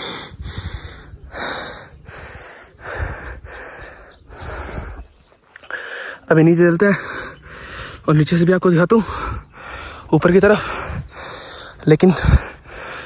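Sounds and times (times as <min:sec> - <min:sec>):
person breathing hard: 0:00.0 - 0:08.1, 0:09.0 - 0:13.0.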